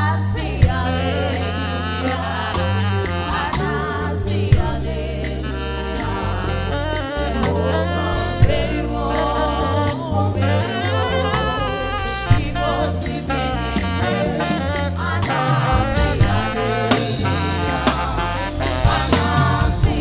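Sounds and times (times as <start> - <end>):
deep bass line: 0.0 - 20.0
electric guitar: 0.0 - 20.0
saxophone: 0.0 - 20.0
singers in harmony: 0.0 - 20.0.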